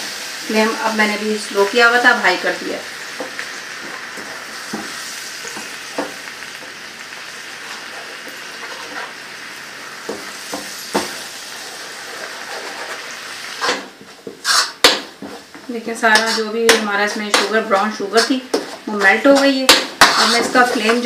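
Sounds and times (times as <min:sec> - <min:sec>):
sauce sizzling in a pan: 0:00.0 - 0:21.0.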